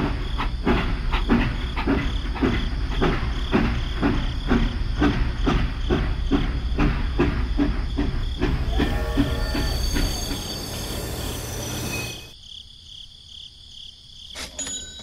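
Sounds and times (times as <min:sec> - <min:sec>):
toy train rhythmic chuffing: 0:00.0 - 0:12.4.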